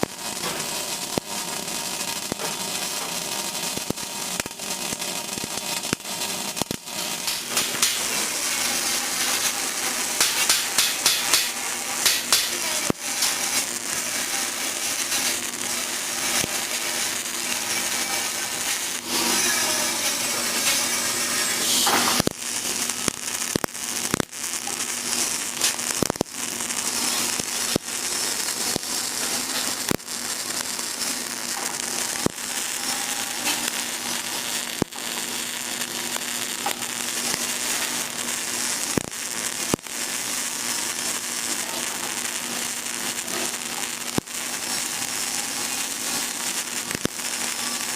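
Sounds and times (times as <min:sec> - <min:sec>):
steady hum: 0:00.0 - 0:46.4
welding arc crackling: 0:00.0 - 0:47.9.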